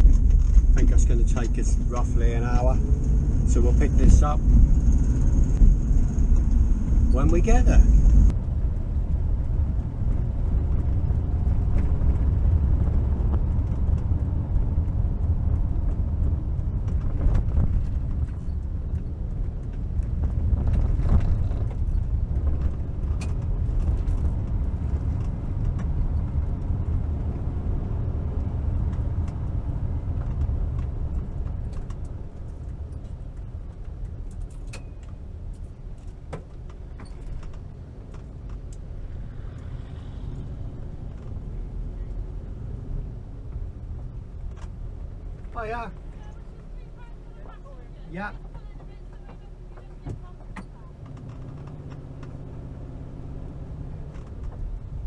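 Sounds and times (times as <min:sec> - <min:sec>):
road noise: 0:00.0 - 0:55.0
van engine driving: 0:00.0 - 0:55.0.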